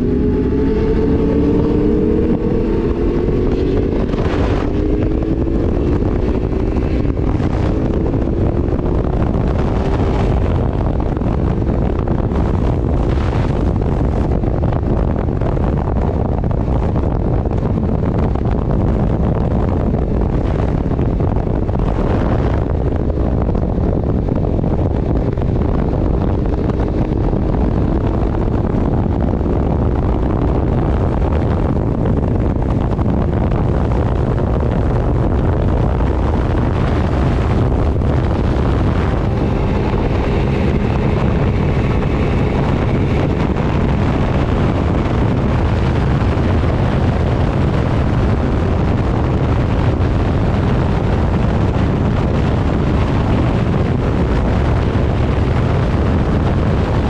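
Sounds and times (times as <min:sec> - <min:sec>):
vehicle engine: 0:00.0 - 0:57.0
wind buffeting microphone: 0:00.0 - 0:57.0.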